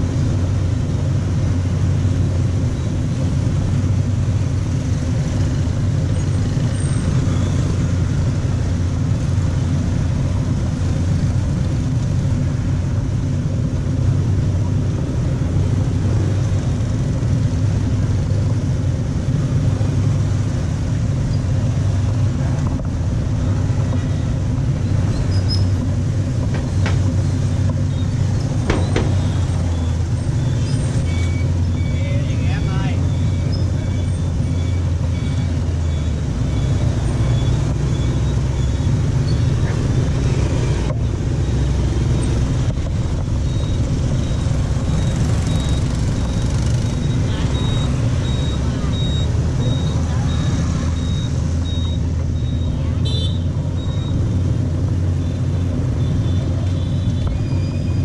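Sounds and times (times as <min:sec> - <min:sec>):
motorbike engine hum: 0:00.0 - 0:58.0
road and wind noise: 0:00.0 - 0:58.0
surrounding motorbikes: 0:00.0 - 0:58.0.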